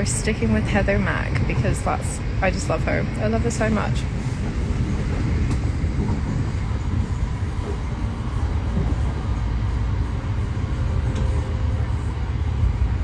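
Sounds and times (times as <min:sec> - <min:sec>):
train rumble from inside carriage: 0:00.0 - 0:13.0.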